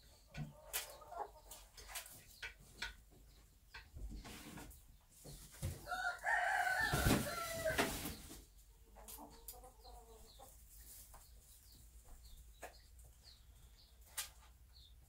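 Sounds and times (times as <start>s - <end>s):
hen clucking: 0.0s - 4.7s, 5.8s - 14.0s.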